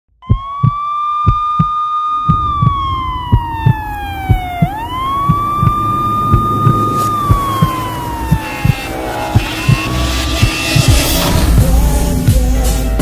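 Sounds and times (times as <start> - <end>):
siren wailing: 0.2 - 11.5
deep drum thumps: 0.3 - 12.7.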